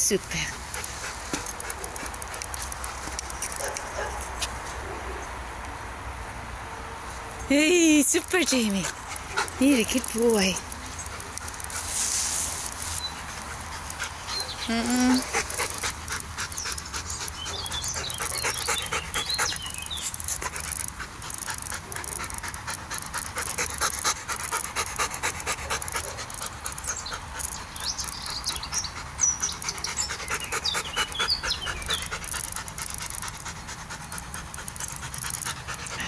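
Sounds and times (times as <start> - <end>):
dog panting: 0.2 - 4.3, 7.5 - 36.0.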